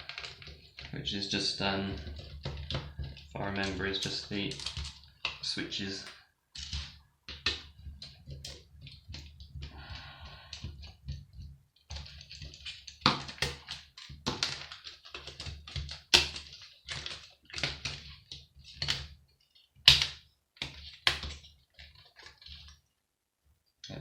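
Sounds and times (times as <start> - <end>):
plastic and metal parts clicking: 0.0 - 22.8.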